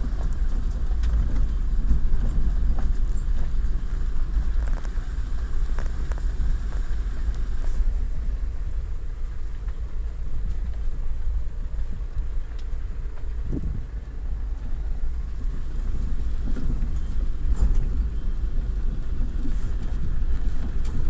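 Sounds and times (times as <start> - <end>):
light clicks and rattles: 0.0 - 8.1, 9.1 - 21.0
diesel engine rumble in cabin: 0.0 - 21.0.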